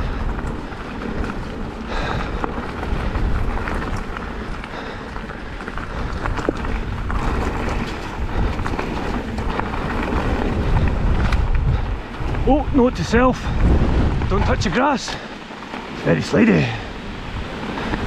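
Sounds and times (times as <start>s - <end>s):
bike clicking and rattling: 0.0s - 18.0s
bike tyre noise: 0.0s - 18.0s
wind rumble on microphone: 0.0s - 18.0s.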